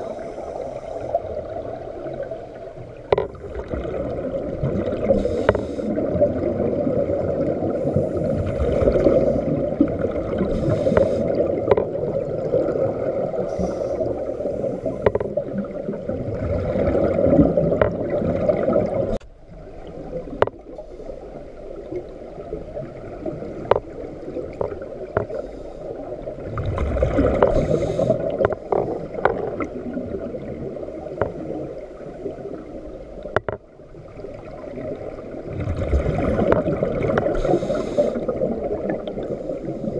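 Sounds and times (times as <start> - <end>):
underwater bubbles gurgling: 0.0 - 39.9
underwater water noise: 0.0 - 39.9.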